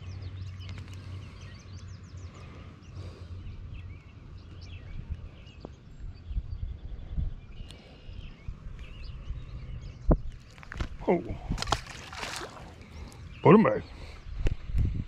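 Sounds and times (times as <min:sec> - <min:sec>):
small songbirds chirping: 0:00.0 - 0:15.0
steady low rumble: 0:00.0 - 0:15.0.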